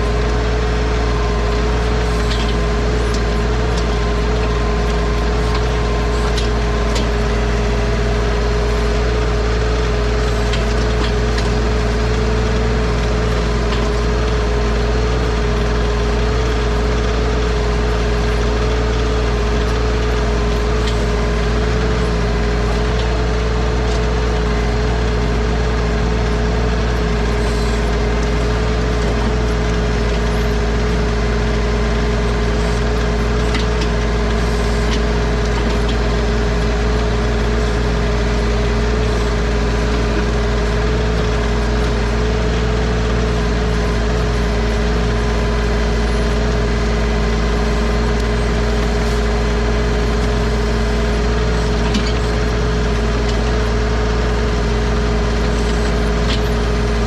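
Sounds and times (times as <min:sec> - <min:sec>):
tractor engine running steadily: 0:00.0 - 0:57.0.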